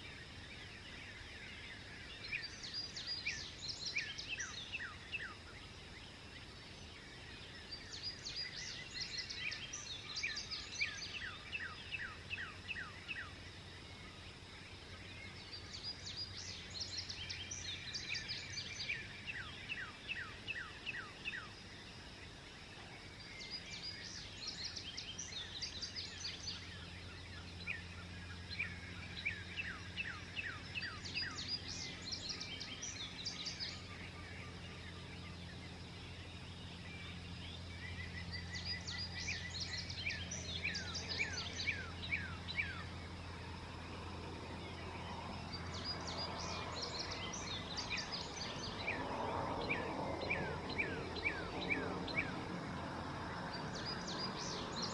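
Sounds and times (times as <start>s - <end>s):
songbirds singing: 0.0s - 54.9s
steady low hum: 0.0s - 54.9s.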